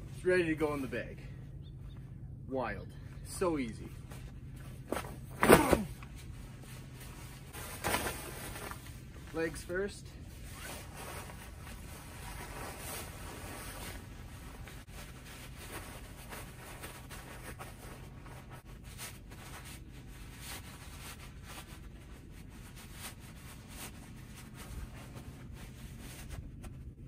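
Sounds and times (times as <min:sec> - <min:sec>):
tent fabric rustling and scraping: 0:03.3 - 0:27.0.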